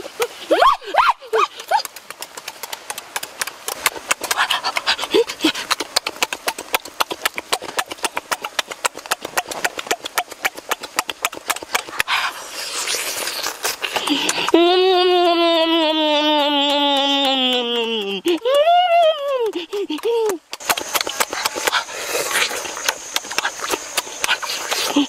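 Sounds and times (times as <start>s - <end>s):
wet chewing and lip-smacking: 1.2s - 25.0s
mouth clicks: 1.3s - 25.0s.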